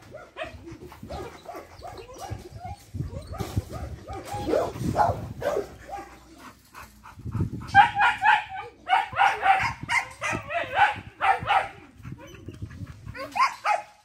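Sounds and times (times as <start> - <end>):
dogs barking: 0.0 - 6.4, 7.6 - 12.4, 13.1 - 14.0.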